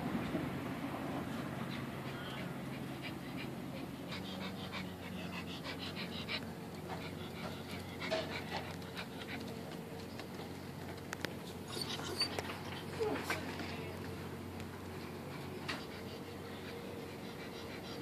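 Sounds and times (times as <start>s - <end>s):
small dog panting: 1.3s - 10.4s, 11.5s - 14.1s, 14.8s - 18.0s.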